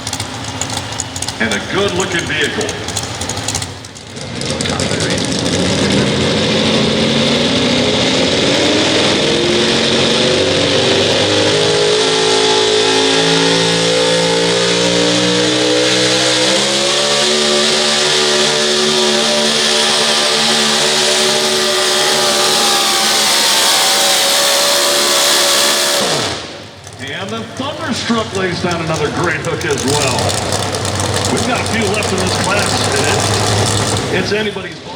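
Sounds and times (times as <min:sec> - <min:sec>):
truck engine at full throttle: 0:00.0 - 0:34.9.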